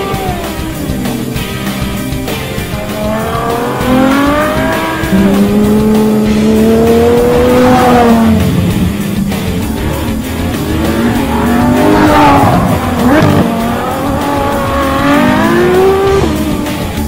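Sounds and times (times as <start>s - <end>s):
car engine revving through upshifts: 0.0s - 17.0s.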